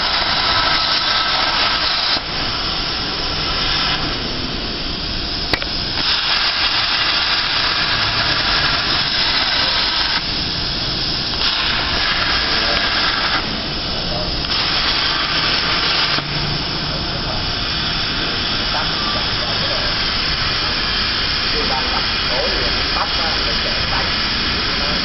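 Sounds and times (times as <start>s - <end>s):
plasma cutter torch hissing: 0.0s - 25.0s.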